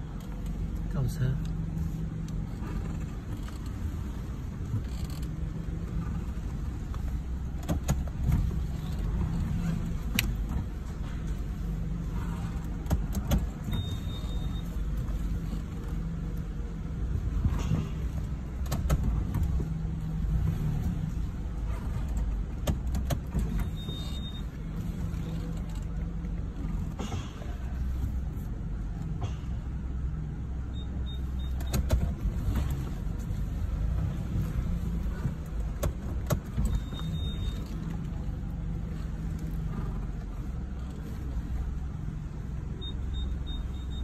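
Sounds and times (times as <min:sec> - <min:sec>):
car rumble: 0:00.0 - 0:44.0.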